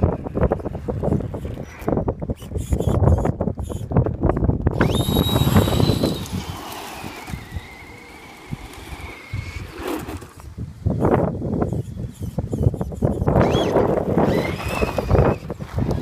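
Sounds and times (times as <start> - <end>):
rc car motor whining: 2.3 - 16.0.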